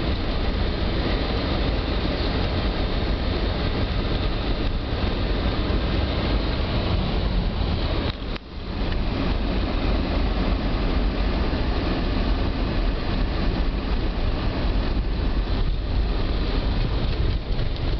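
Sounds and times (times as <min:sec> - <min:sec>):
car tyres rumbling on snow: 0:00.0 - 0:17.9.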